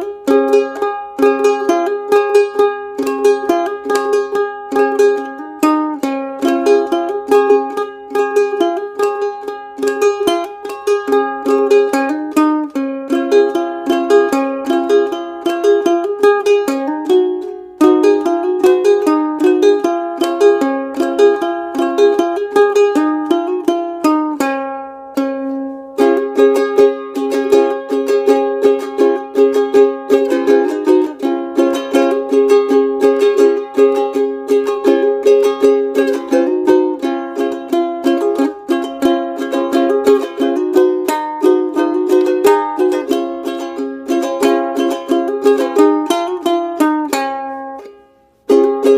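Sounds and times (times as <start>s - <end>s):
ukulele picking and strumming: 0.0s - 48.9s.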